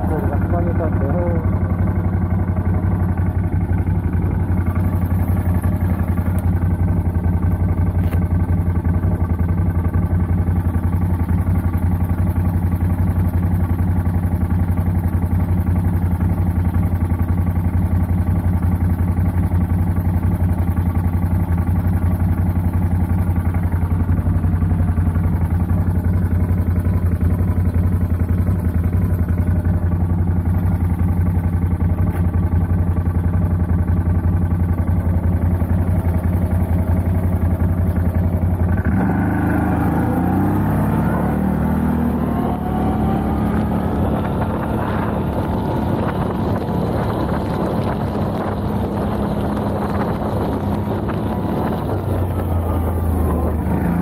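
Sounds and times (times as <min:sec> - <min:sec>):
quad bike engine idling: 0:00.0 - 0:54.0.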